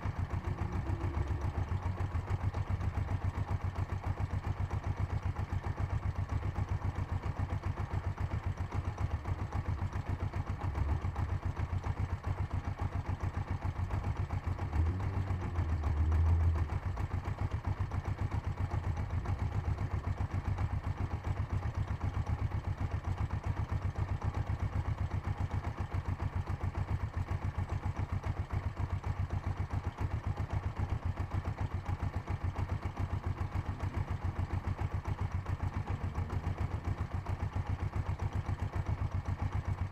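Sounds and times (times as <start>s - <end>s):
engine knock: 0.0s - 39.9s
motorcycle engine idling: 0.0s - 39.9s.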